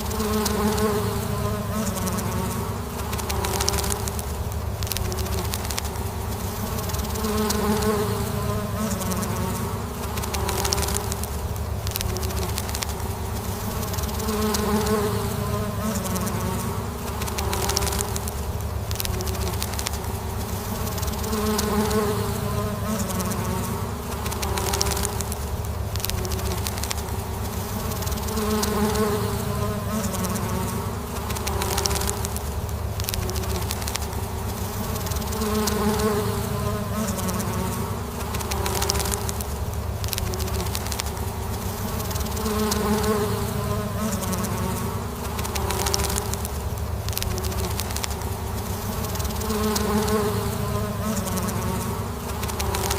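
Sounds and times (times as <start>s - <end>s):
honeybees buzzing: 0.0s - 52.9s.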